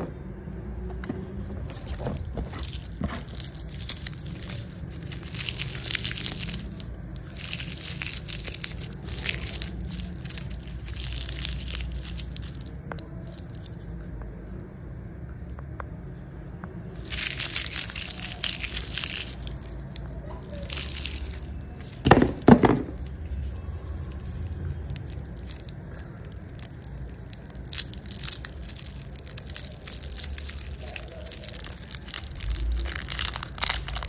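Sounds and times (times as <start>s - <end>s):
candy wrappers crinkling: 0.8s - 14.1s, 16.8s - 34.0s.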